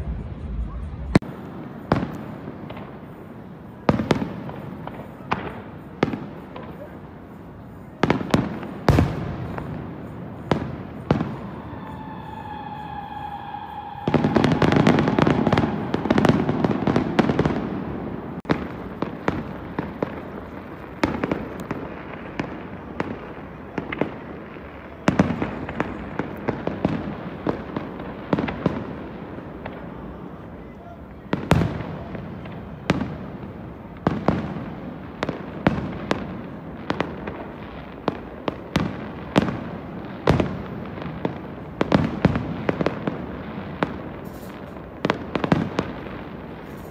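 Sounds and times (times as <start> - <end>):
firework whistle: 0.0 - 46.9
fireworks bangs and crackle: 0.0 - 46.9.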